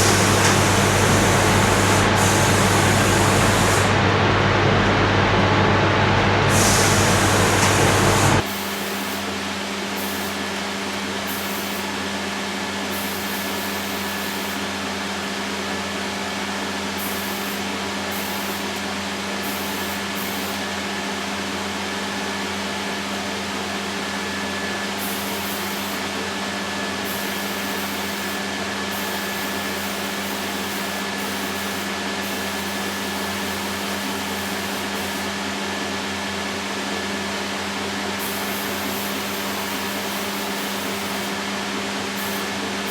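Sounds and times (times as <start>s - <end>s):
machine humming and hissing: 0.0s - 42.9s.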